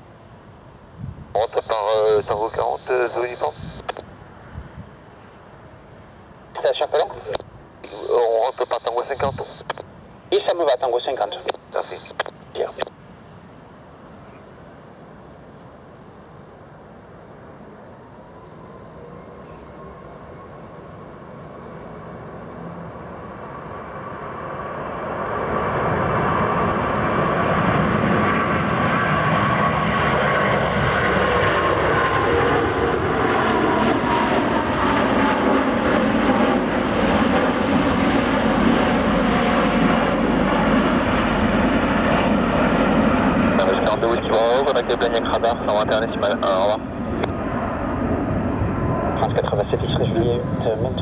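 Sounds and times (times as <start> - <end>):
jet roar of passing airliner: 0.0 - 12.9, 13.6 - 51.0.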